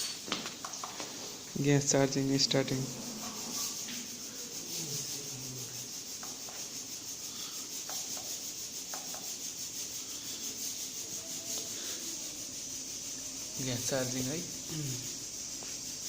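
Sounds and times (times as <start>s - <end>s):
gas hissing through hose: 0.0s - 16.0s.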